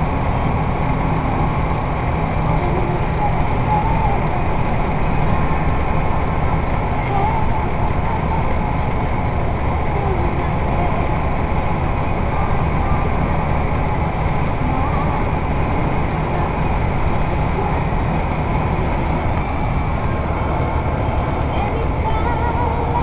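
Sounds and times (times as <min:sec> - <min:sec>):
road noise: 0:00.0 - 0:23.0
truck diesel engine drone: 0:00.0 - 0:23.0.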